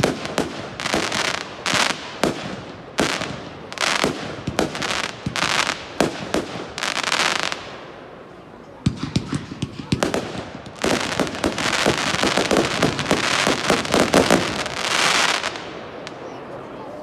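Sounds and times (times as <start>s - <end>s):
fireworks bangs: 0.0s - 8.2s, 8.8s - 16.7s
crackling hiss of fireworks: 0.0s - 17.0s.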